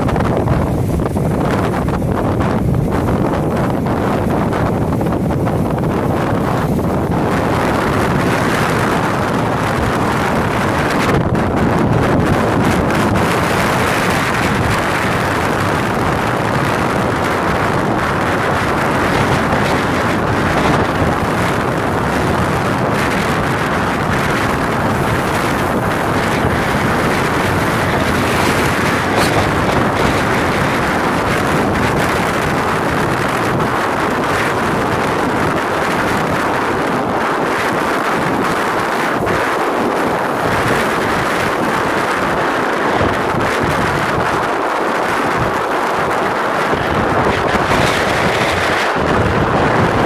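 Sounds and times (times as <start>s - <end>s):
strong wind on microphone: 0.0s - 50.0s.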